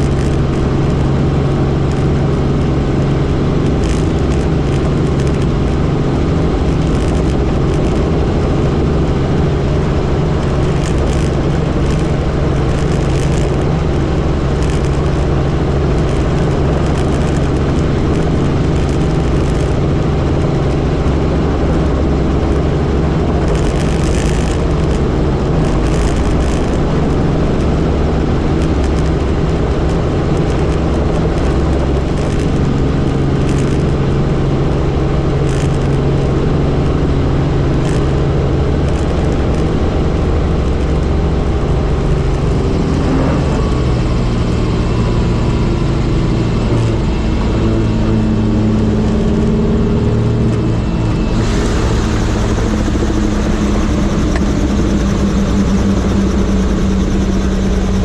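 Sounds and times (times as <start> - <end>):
helicopter engine and rotors: 0.0 - 58.0.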